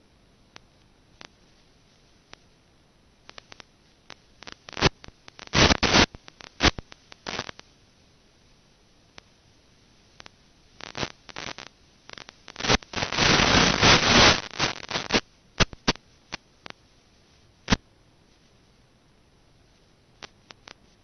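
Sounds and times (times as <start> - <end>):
static crackles: 0.0 - 21.0.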